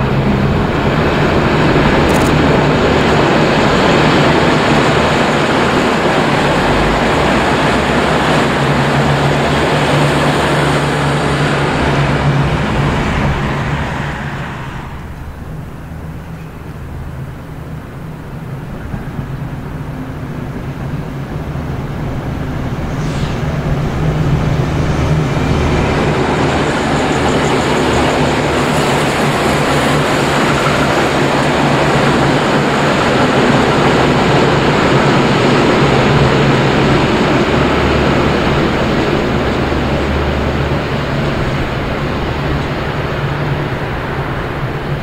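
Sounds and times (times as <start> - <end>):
diesel train engines humming: 0.0 - 45.0
wheels rumbling on rail: 0.0 - 45.0.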